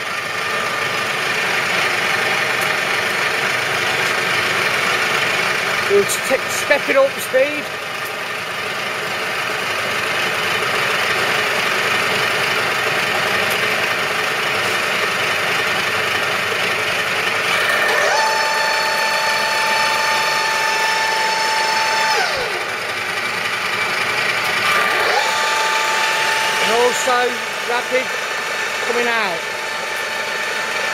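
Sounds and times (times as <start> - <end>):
machine spindle drive running: 0.0 - 30.9
machine whine: 0.0 - 30.9.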